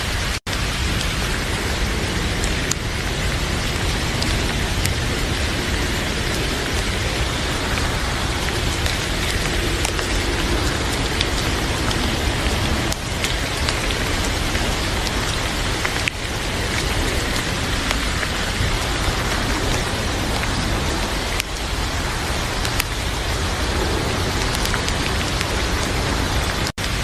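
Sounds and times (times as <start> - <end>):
heavy rain falling: 0.0 - 27.0
sharp rain ticks: 0.0 - 27.0.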